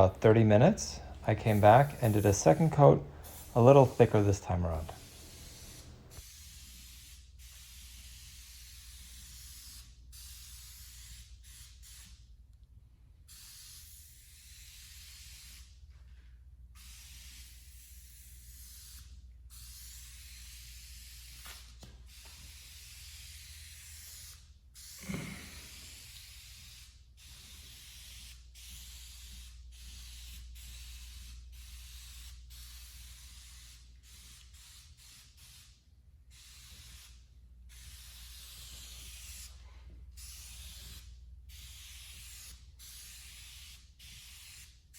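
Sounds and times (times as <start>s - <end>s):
aerosol can spraying: 0.0s - 12.2s, 16.8s - 39.6s, 40.2s - 44.9s.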